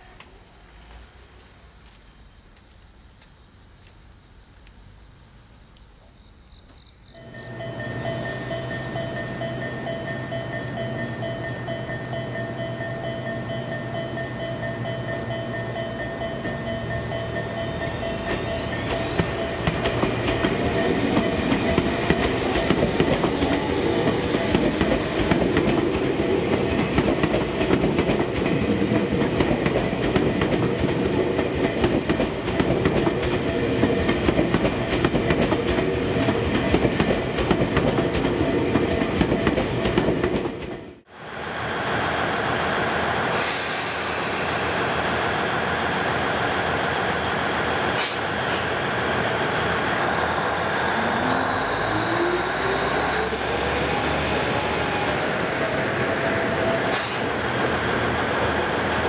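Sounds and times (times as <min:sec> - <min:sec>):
electric train whine: 0:07.1 - 0:59.0.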